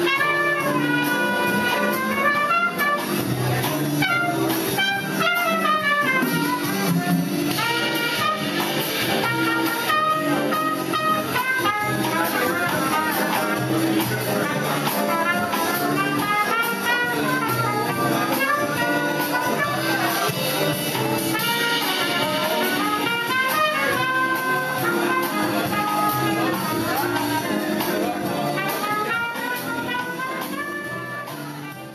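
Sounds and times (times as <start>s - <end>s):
drums: 0.0s - 31.9s
piano: 0.0s - 31.9s
trumpet melody: 0.0s - 31.9s
upright bass: 0.0s - 31.9s.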